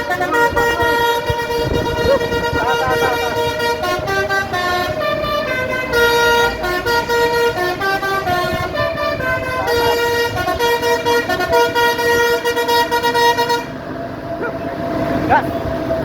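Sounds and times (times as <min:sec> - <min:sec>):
bus musical horn playing tune: 0:00.0 - 0:14.6
bus engine running: 0:00.0 - 0:16.0.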